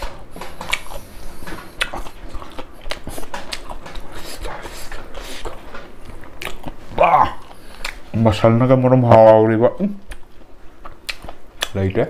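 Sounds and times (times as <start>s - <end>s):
open-mouth chewing: 0.0s - 8.1s, 10.0s - 11.8s.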